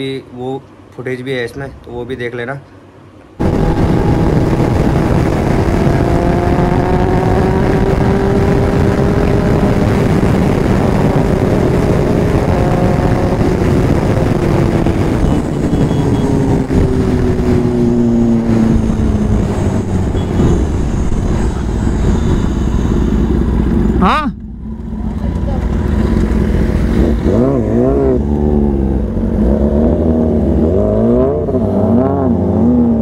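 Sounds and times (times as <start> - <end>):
wind and road noise: 0.0 - 33.0
motorcycle engine running: 3.4 - 30.6.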